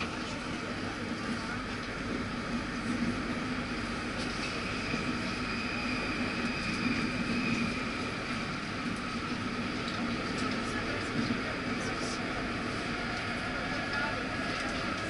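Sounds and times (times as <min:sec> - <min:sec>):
train running inside carriage: 0:00.0 - 0:15.0.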